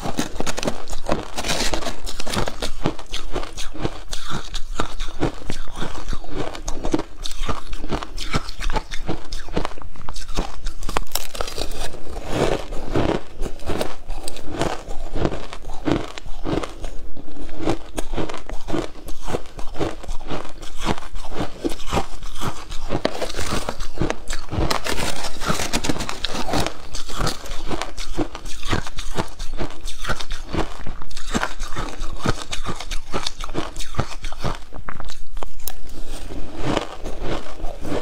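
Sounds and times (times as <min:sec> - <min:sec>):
chewing crushed ice: 0:00.0 - 0:38.0.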